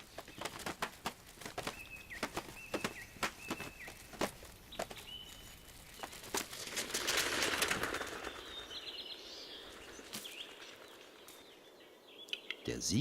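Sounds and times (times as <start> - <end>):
bird wings flapping: 0.0 - 11.7.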